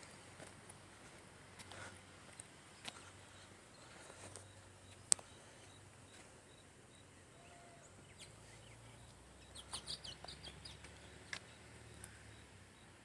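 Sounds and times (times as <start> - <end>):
faint low hum: 0.0 - 13.0
bird chirping: 2.4 - 13.0.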